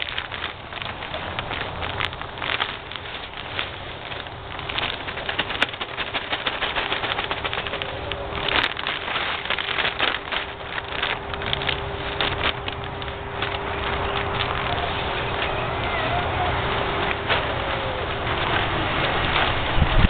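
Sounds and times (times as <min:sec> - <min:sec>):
soil pouring from plastic bag: 0:00.0 - 0:20.0.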